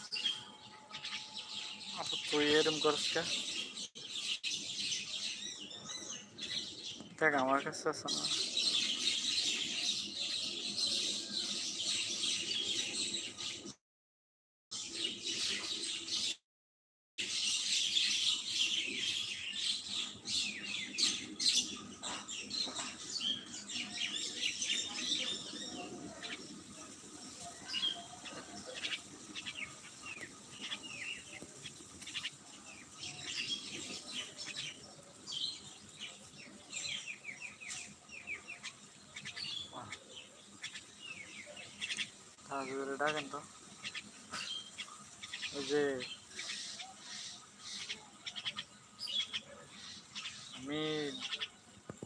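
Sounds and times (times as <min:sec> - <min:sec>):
birds chirping and twittering: 0:00.0 - 0:13.8, 0:14.7 - 0:16.4, 0:17.2 - 0:52.0.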